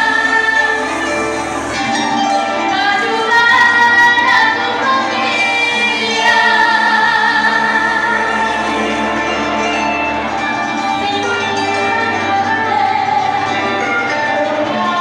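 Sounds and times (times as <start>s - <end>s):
musical accompaniment: 0.0s - 15.0s
woman singing: 0.0s - 15.0s.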